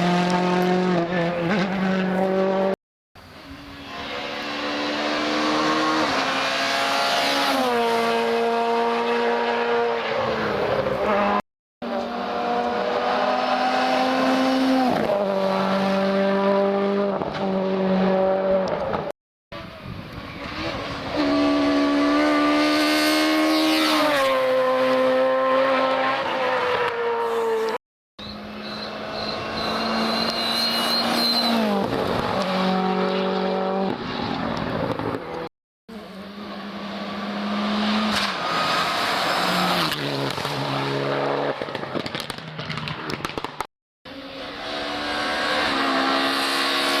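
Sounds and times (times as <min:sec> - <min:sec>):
rally car engines revving: 0:00.0 - 0:02.8, 0:03.4 - 0:47.0.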